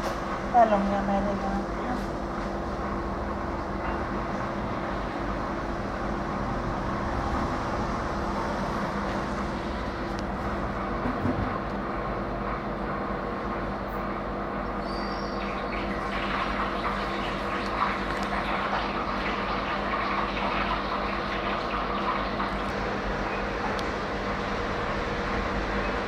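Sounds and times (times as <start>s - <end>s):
motor or fan humming: 0.0s - 26.0s.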